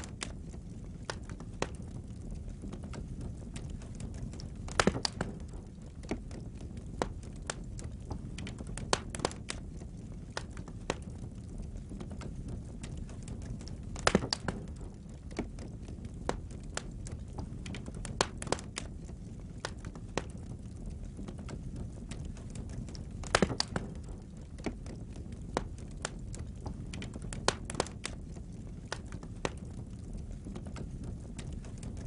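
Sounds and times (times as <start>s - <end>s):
low rumble of flames: 0.0s - 32.0s
wood fire crackling and popping: 0.0s - 32.0s.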